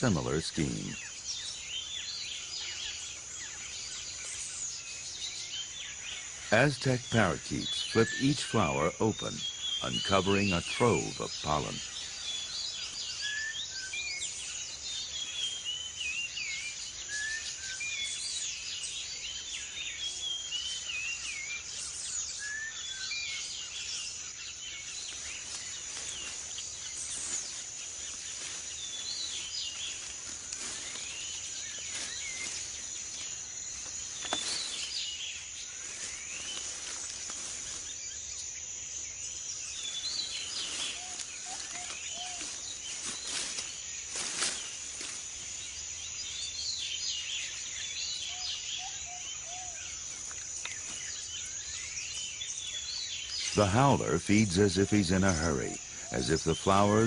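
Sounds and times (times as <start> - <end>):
birds chirping and calling: 0.0 - 57.0
high insect drone: 0.0 - 57.0.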